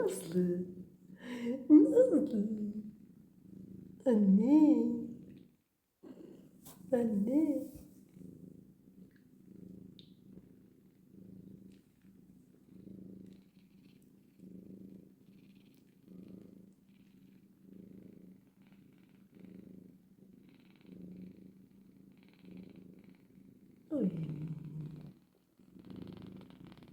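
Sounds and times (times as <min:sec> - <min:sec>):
cat purring: 0:00.0 - 0:26.9.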